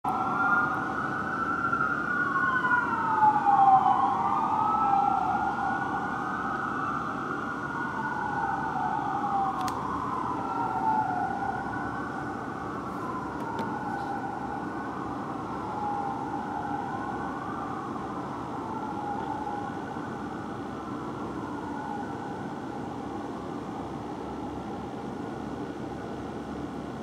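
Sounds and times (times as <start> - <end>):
fire truck sirens wailing: 0.0 - 27.0.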